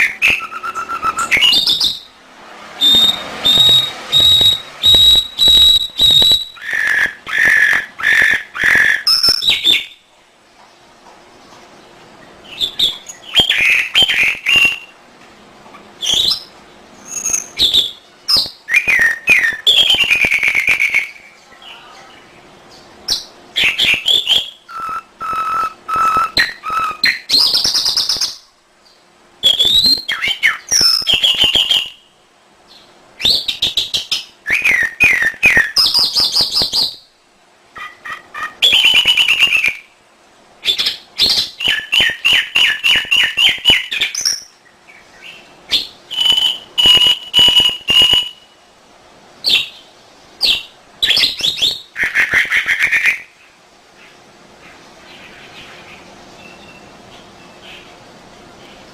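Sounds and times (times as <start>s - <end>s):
canary singing: 0.0s - 10.1s, 10.7s - 15.0s, 15.6s - 37.1s, 37.7s - 40.0s, 40.6s - 48.6s, 49.4s - 58.0s.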